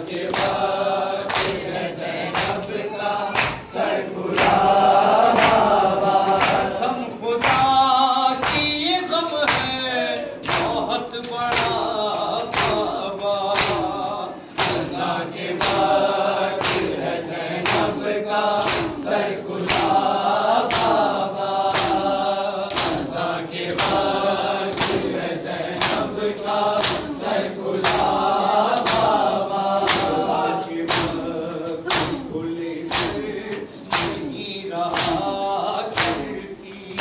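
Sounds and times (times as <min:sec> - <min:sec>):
men chanting together: 0:00.0 - 0:37.0.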